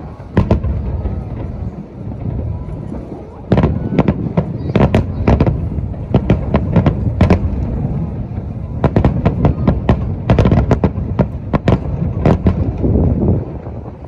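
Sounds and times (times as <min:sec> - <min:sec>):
continuous low rumble: 0:00.0 - 0:14.0
fireworks cracks and booms: 0:00.0 - 0:14.0.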